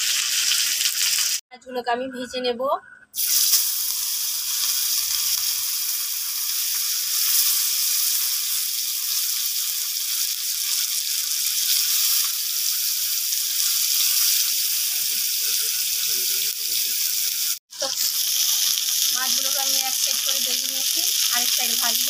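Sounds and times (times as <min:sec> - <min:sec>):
fish frying in hot oil: 0:00.0 - 0:01.4, 0:03.2 - 0:22.0.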